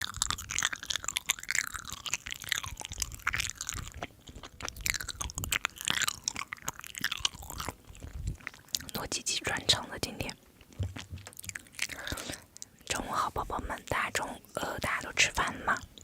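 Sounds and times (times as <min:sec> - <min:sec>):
person chewing food: 0:00.0 - 0:16.0
wet mouth sounds: 0:00.0 - 0:16.0.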